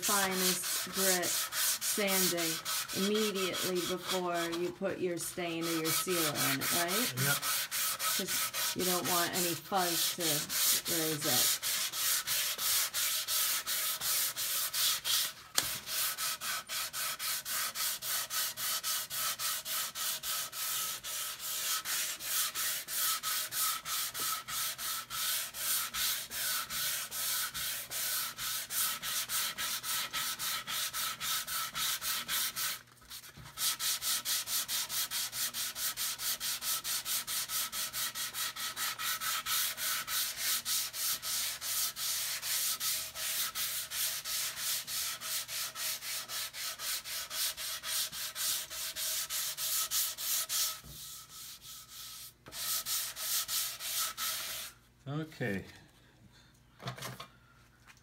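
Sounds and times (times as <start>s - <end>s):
sandpaper sanding wood: 0.0s - 54.8s.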